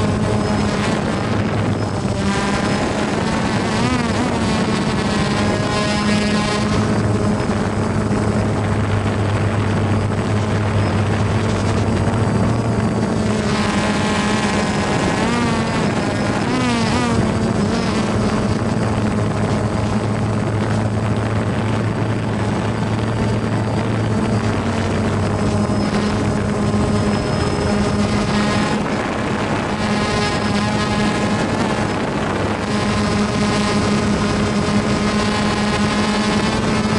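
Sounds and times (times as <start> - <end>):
drone propellers buzzing: 0.0 - 36.9.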